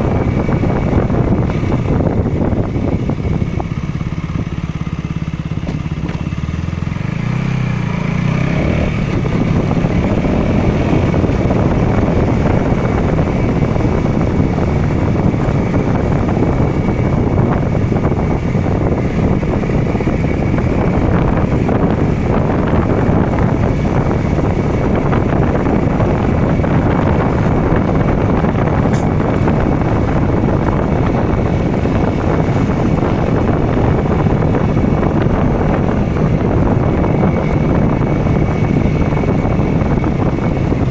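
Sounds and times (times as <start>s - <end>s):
motorcycle engine revving: 0.0s - 40.9s
road noise: 0.0s - 40.9s
wind rush: 0.0s - 40.9s.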